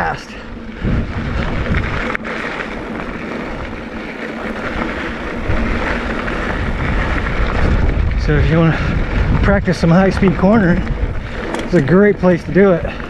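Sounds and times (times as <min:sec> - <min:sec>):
bike tyres rolling on dirt: 0:00.0 - 0:13.0
wind on camera microphone: 0:00.4 - 0:13.0.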